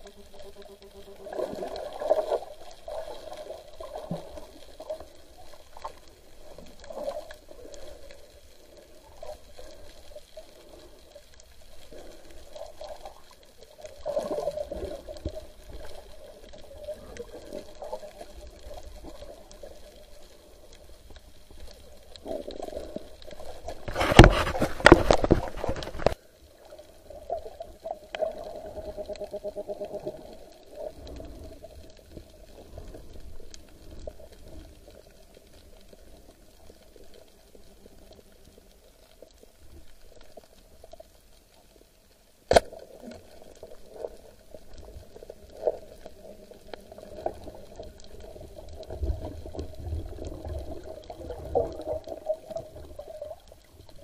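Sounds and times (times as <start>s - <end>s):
underwater gurgle and slosh: 0.0s - 54.0s.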